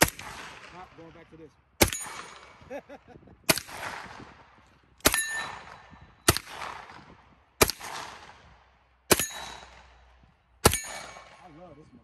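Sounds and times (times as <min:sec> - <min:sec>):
rifle shots with echo: 0:00.0 - 0:02.8, 0:03.5 - 0:11.7.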